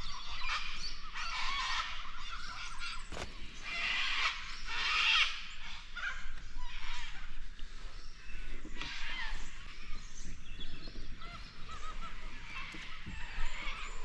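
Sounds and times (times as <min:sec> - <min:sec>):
birds calling and chattering: 0:00.0 - 0:14.0.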